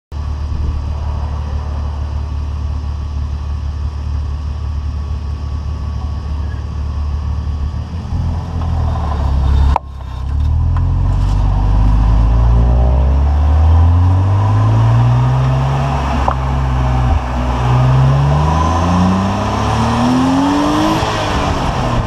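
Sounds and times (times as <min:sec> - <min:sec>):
car driving with low drone: 0:00.1 - 0:22.0.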